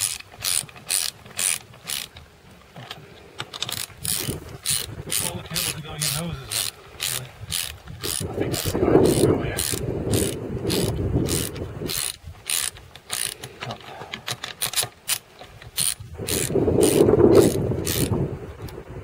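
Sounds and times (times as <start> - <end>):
ratchet wrench clicking: 0.0 - 2.2, 3.5 - 18.8.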